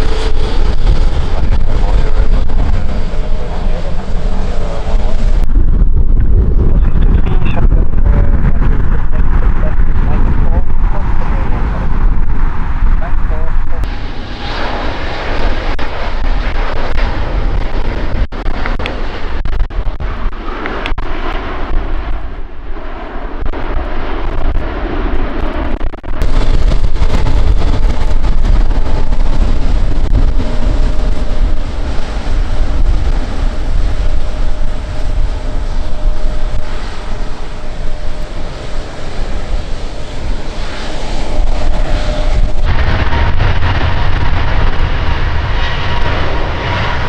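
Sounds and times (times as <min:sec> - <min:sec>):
jet engines rumbling: 0:00.0 - 0:47.0.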